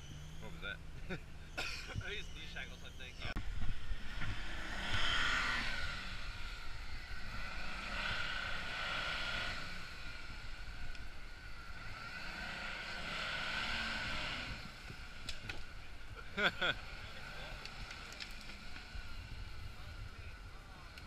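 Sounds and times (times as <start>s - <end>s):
pickup truck engine revving: 3.7s - 21.0s.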